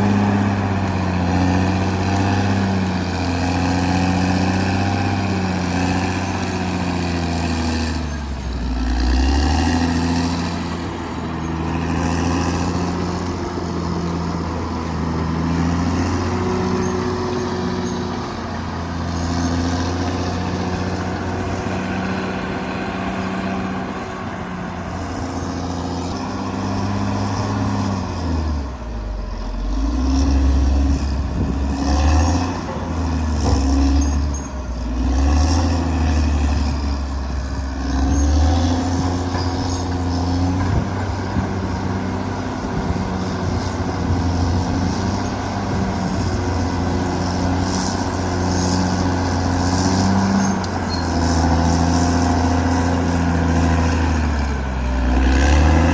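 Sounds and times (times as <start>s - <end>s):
bulldozer diesel engine working: 0.0s - 55.9s.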